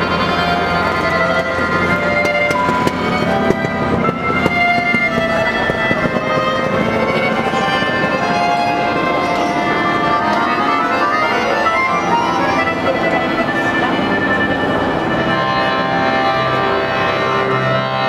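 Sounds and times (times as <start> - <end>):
orchestral music with violins: 0.0 - 18.0.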